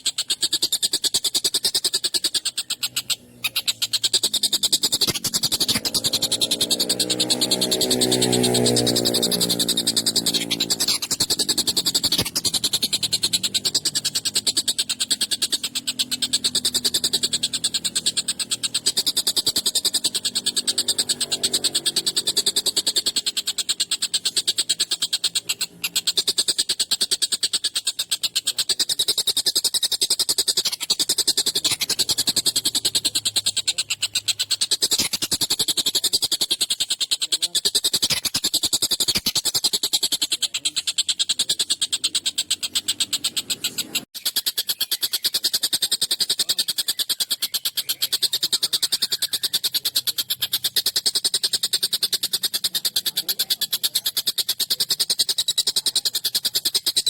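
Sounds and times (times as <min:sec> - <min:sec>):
kingfisher rattling chatter: 0:00.0 - 0:57.0.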